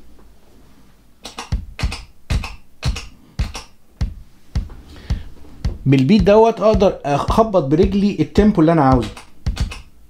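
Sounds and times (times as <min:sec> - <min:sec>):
drum machine beat: 0:01.2 - 0:09.9.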